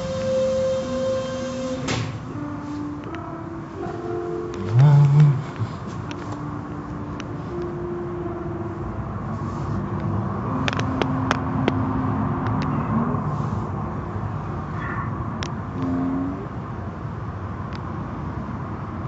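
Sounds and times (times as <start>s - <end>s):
machinery hum: 0.0s - 17.2s.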